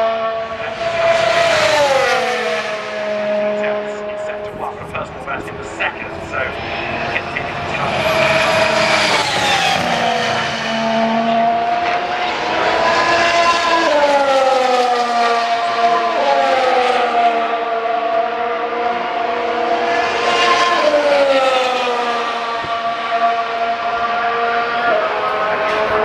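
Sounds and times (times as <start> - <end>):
racing cars passing at speed: 0.0 - 26.0.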